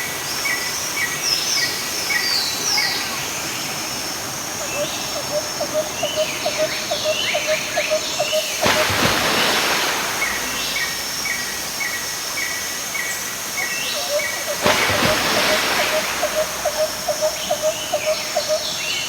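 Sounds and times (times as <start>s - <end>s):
waterfall rushing: 0.0s - 19.0s
birds calling: 2.5s - 19.0s.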